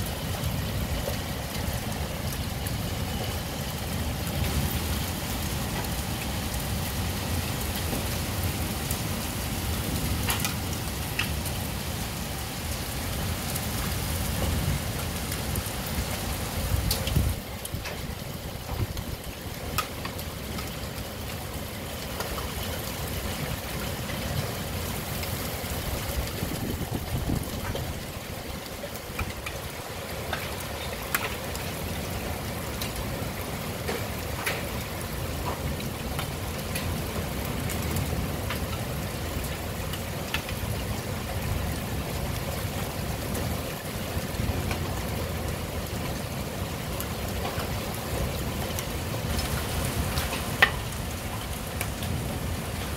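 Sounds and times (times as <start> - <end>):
heavy rain falling: 0.0 - 52.9
raindrops ticking on surfaces: 0.0 - 52.9.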